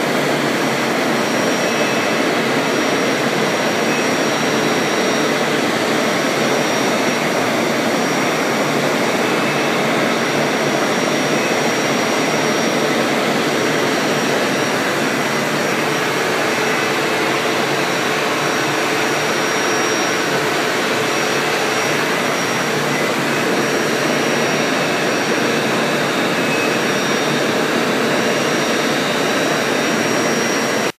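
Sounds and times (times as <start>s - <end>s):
high spindle whine: 0.0s - 30.9s.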